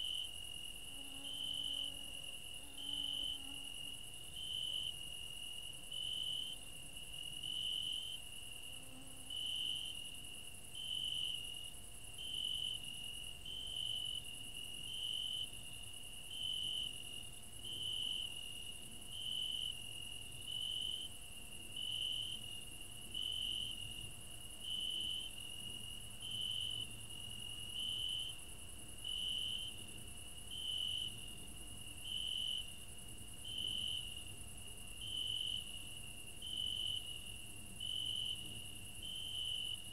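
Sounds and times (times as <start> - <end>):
crickets chirping: 0.0 - 39.9
high insect buzz: 0.0 - 39.9.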